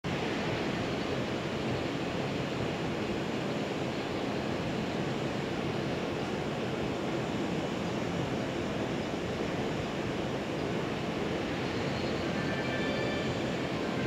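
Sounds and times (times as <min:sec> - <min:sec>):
steady rushing outdoor noise: 0:00.1 - 0:14.0.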